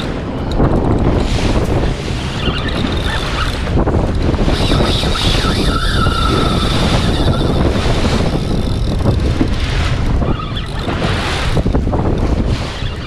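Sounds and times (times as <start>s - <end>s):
water rushing against hull: 0.0s - 13.0s
wind buffeting microphone: 0.0s - 13.0s.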